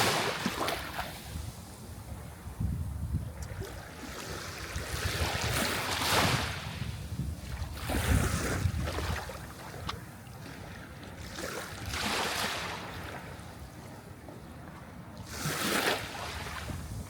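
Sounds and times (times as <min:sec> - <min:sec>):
sea waves breaking: 0:00.0 - 0:02.5, 0:03.4 - 0:17.0.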